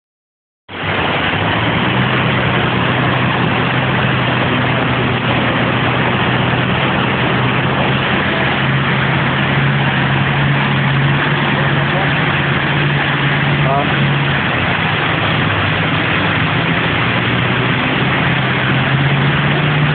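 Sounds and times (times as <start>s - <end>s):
car wash rushing water: 0.7s - 19.9s
low steady hum: 0.7s - 19.9s.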